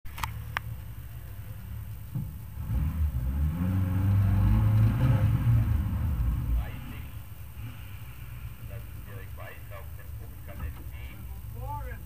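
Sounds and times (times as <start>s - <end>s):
car engine idling and revving: 0.1s - 12.0s.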